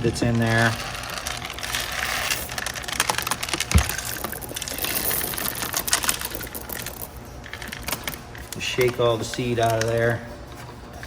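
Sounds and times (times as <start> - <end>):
corn kernels rattling: 0.0 - 10.2.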